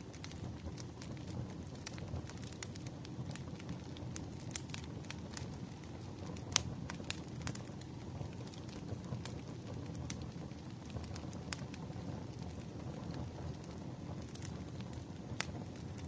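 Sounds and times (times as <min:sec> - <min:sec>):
fire crackles and pops: 0:00.0 - 0:16.0
fire low rumble: 0:00.0 - 0:16.0.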